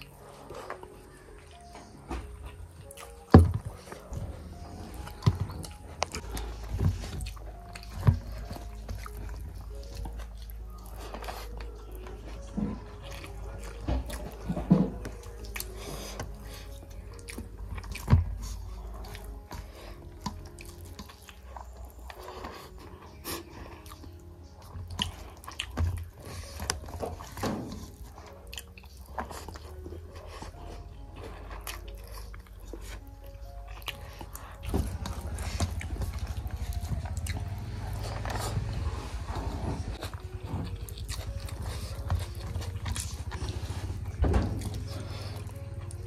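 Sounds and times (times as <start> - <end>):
chewing and mouth smacking: 0.0 - 46.0.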